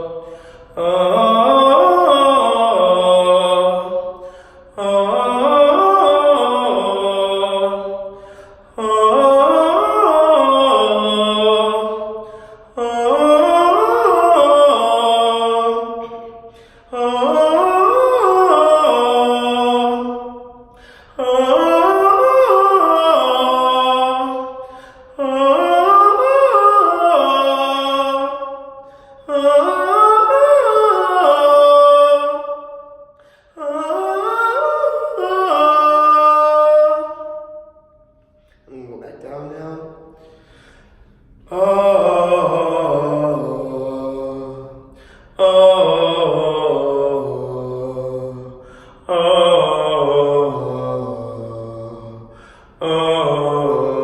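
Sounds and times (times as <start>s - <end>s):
man singing vocal scales: 0.0s - 37.7s, 41.4s - 54.0s.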